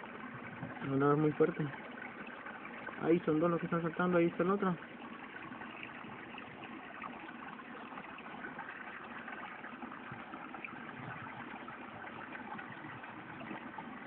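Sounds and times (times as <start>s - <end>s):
stream water running over rocks: 0.0s - 14.0s.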